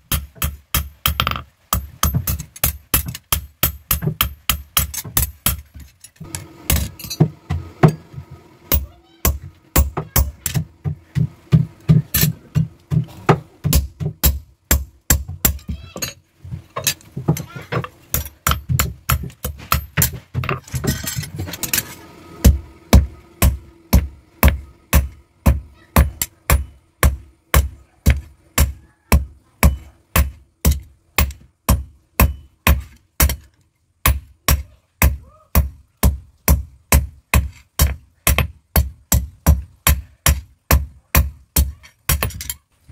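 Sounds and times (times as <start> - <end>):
hammer beating hot iron on anvil: 0.0 - 16.2, 16.9 - 42.6.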